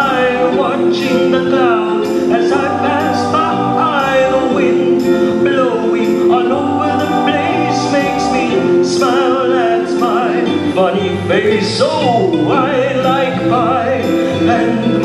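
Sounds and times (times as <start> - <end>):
backing music: 0.0 - 15.0
voices singing: 0.0 - 15.0.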